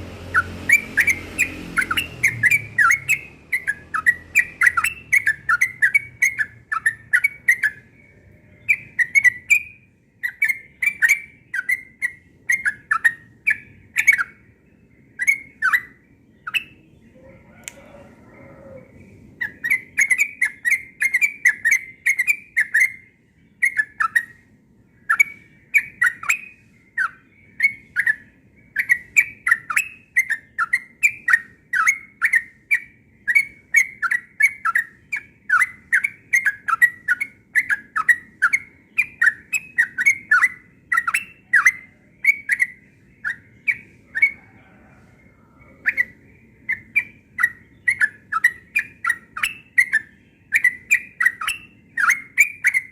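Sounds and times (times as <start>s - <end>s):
bulbul chirping song: 0.0s - 52.9s.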